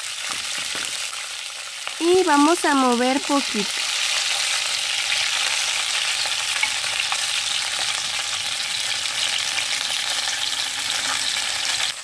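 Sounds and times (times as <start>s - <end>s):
meat sizzling in hot fat: 0.0s - 12.0s.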